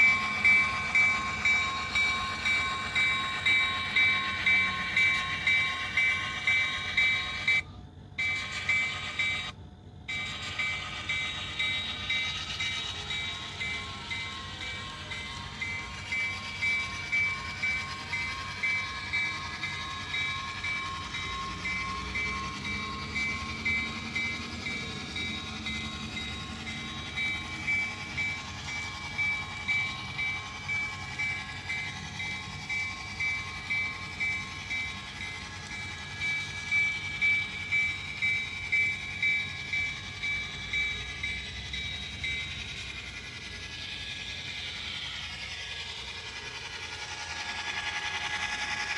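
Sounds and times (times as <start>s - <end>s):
model train sound beats: 0.0s - 48.9s
steady high tones: 0.0s - 48.9s.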